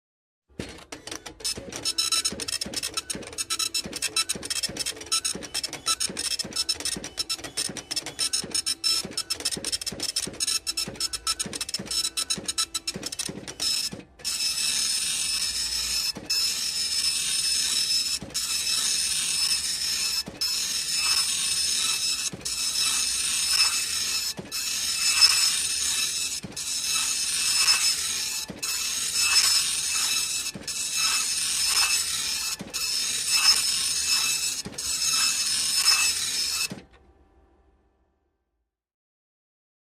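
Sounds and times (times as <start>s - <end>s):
receipt printer printing: 0.6s - 37.0s.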